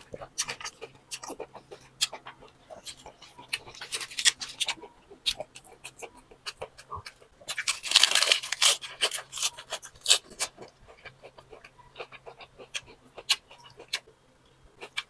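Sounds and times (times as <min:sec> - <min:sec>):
chewing crunchy vegetables: 0:00.0 - 0:14.1, 0:14.8 - 0:15.0.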